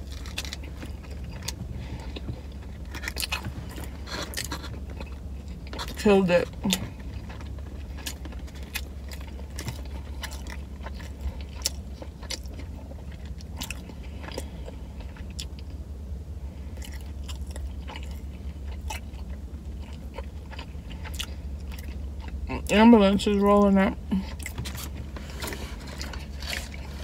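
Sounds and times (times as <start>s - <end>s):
person chewing food: 0.0s - 15.8s, 16.6s - 22.7s, 24.1s - 27.0s
steady low hum: 0.0s - 27.0s.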